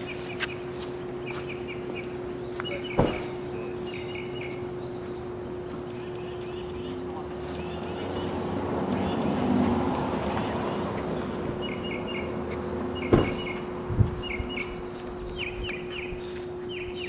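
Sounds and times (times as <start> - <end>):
bird chirping: 0.0 - 9.4, 10.3 - 17.0
steady hum: 0.0 - 17.0.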